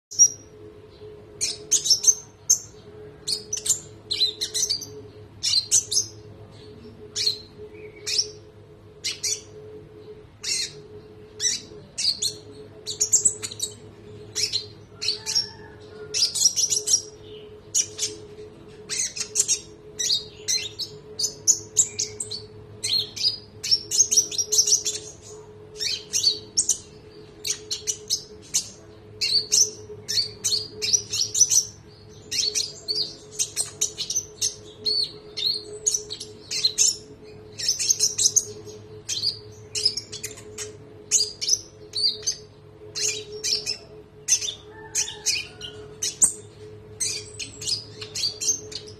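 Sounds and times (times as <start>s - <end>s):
faint steady hum: 0.1s - 48.9s
songbird chirping: 0.1s - 48.9s.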